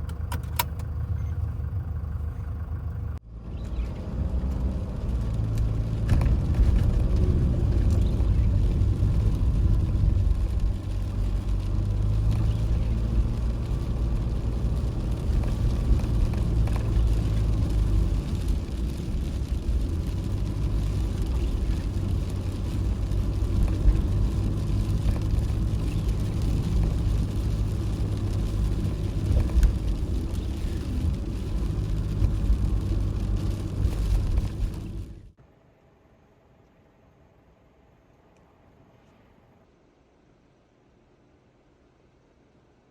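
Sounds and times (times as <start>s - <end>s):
van engine and road rumble: 0.0s - 42.9s.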